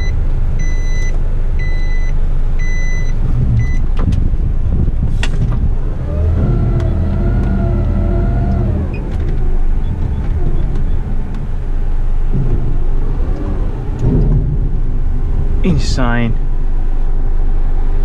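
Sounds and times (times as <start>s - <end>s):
hydraulics whining: 0.0s - 18.0s
truck engine revving: 0.0s - 18.0s.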